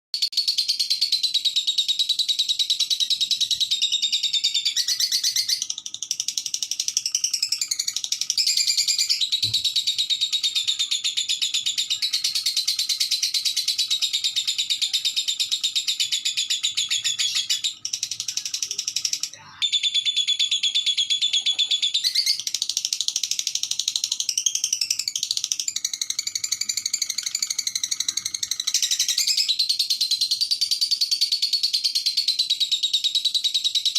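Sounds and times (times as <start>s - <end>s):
lovebird chattering: 1.1s - 32.6s.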